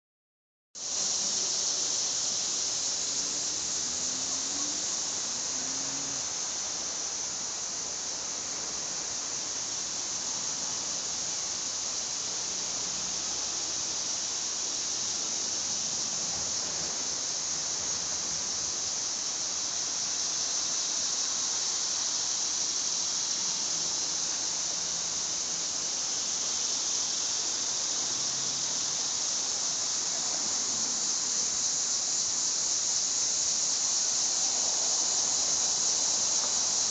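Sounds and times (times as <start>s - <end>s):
cicadas buzzing: 0.8s - 36.9s.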